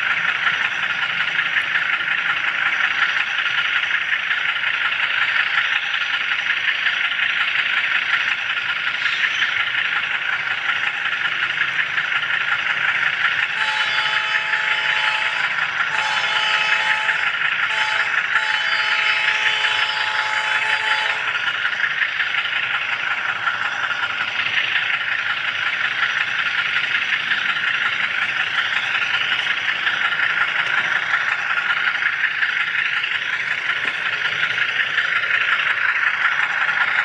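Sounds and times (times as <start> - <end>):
model train rolling: 0.0 - 37.0.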